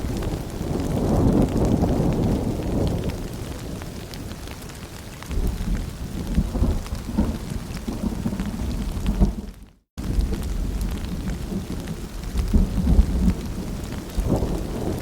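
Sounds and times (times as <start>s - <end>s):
low rolling thunder: 0.0s - 4.6s, 5.3s - 15.0s
rain pattering: 0.0s - 15.0s.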